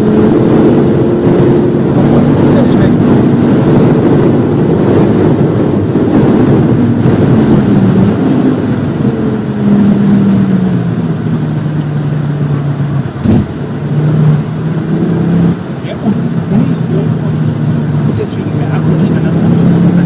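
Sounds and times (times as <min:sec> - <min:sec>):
car engine from inside cabin: 0:00.0 - 0:20.0
wind and road noise: 0:00.0 - 0:20.0.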